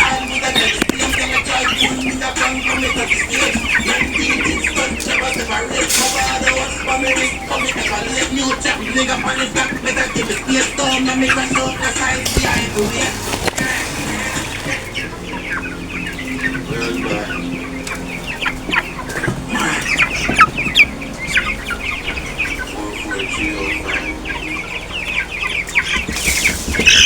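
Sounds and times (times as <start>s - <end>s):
chickens clucking and cheeping: 0.0s - 27.0s.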